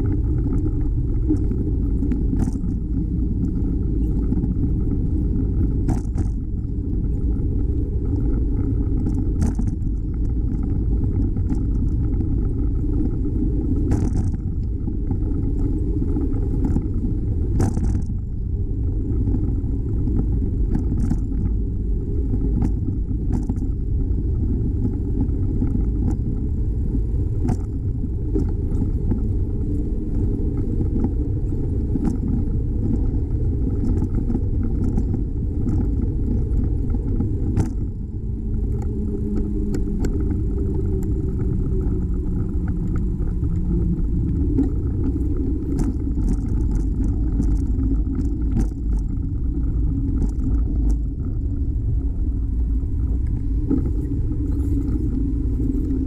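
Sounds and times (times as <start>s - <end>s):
low wind rumble on microphone: 0.0s - 56.0s.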